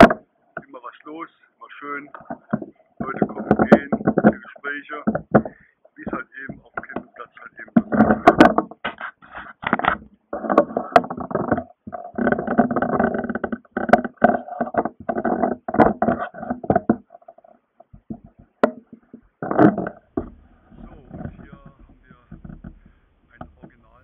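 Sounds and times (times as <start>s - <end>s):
hands rubbing and knocking camera: 2.0s - 24.0s.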